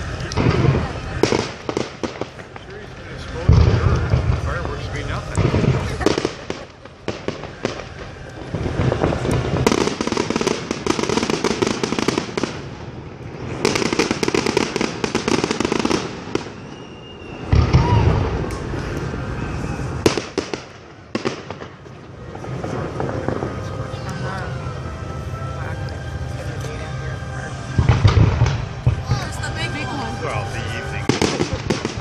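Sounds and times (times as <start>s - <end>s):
heavy low boom: 0.0s - 15.3s, 17.3s - 32.0s
fireworks crackling and popping: 0.0s - 32.0s.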